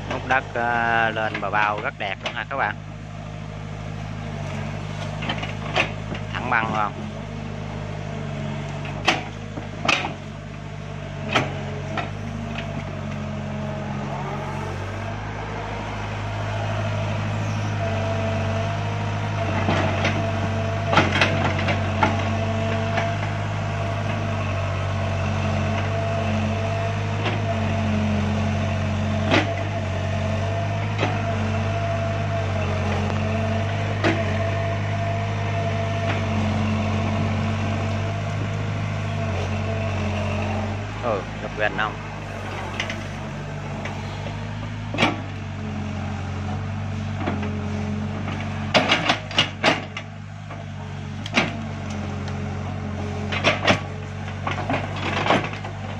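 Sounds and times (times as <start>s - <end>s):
excavator diesel engine running: 0.0s - 55.9s
hydraulic whine: 8.7s - 55.9s.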